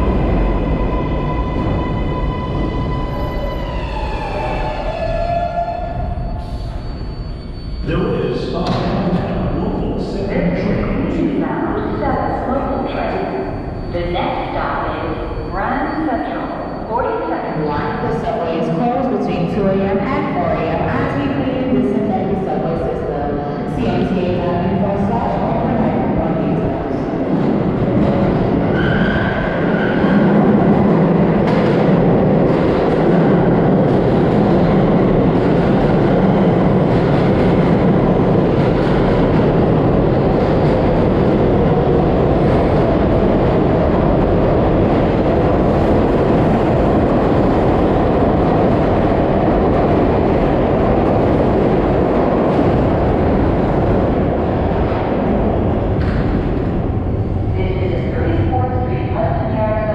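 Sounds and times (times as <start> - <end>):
subway train wheels on rail: 0.0 - 59.9.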